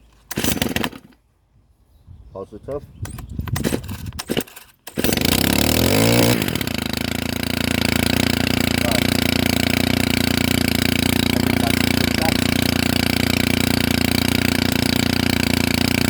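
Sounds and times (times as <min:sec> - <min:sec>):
strimmer engine starting and running: 0:00.1 - 0:01.2, 0:03.0 - 0:16.0.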